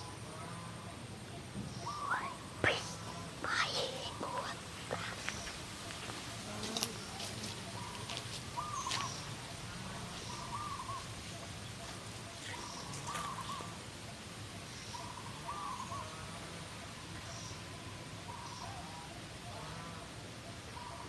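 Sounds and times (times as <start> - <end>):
faint higher bird calls: 0.0 - 21.0.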